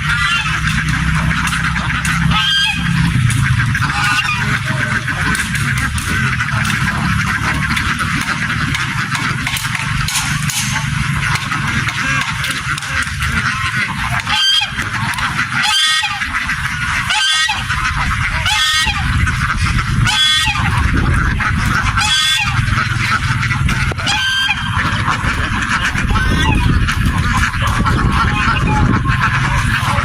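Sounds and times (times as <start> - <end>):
flock of ducks calling: 0.0 - 30.0
steady low rumble: 0.0 - 30.0.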